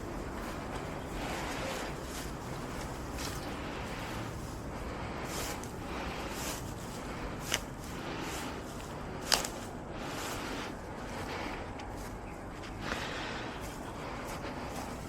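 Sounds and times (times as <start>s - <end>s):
grass rustling being plucked: 0.0s - 15.0s.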